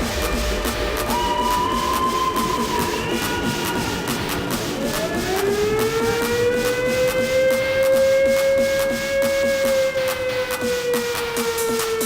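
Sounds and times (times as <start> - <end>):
synth tone gliding upward: 0.0 - 10.0
electronic dance beat: 0.0 - 12.0.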